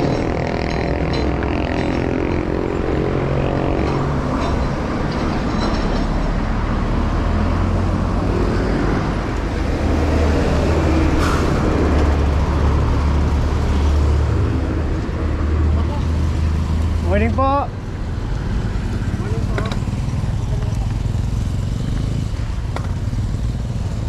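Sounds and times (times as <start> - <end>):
bike wind and road rumble: 0.0 - 24.0
traffic noise: 0.0 - 24.0.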